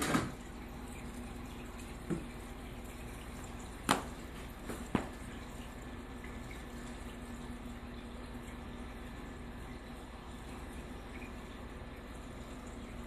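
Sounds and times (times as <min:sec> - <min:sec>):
aquarium water trickling: 0:00.0 - 0:13.0.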